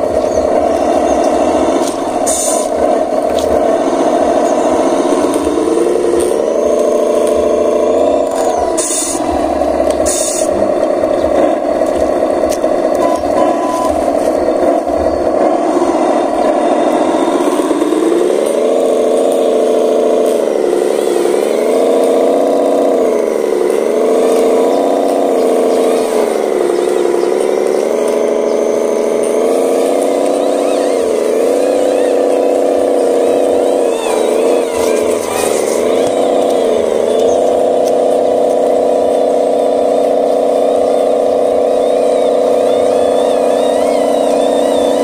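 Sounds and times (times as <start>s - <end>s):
model truck motor whirring: 0.0s - 45.0s.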